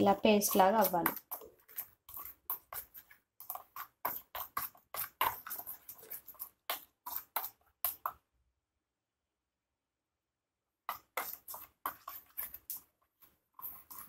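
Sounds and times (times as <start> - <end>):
plastic fork scraping steel bowl: 0.0 - 8.2, 10.9 - 14.0.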